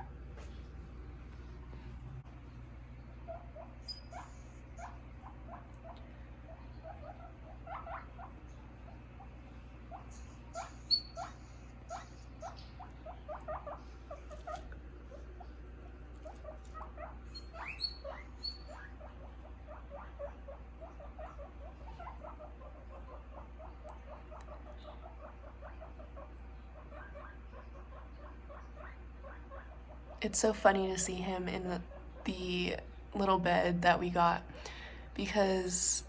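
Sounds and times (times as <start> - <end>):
guinea pig chewing: 0.0 - 33.2.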